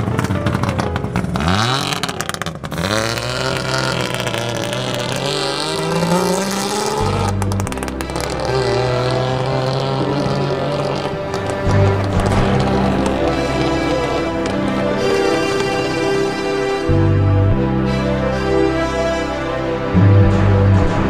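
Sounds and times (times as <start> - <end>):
two-stroke car engine revving: 0.0 - 21.0.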